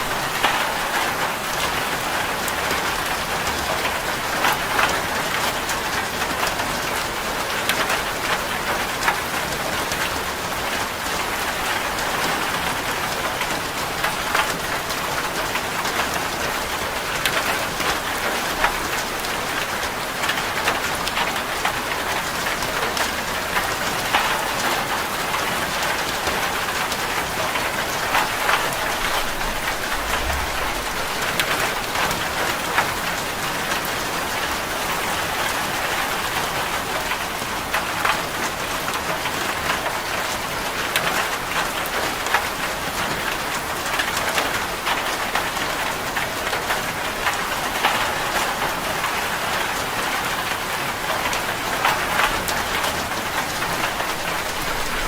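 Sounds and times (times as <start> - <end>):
heavy rain on metal roof: 0.0 - 55.0.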